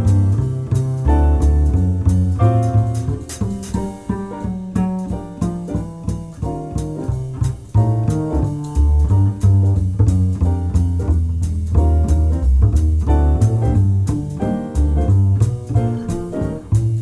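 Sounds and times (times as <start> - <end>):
upbeat jazzy instrumental music: 0.0 - 17.0.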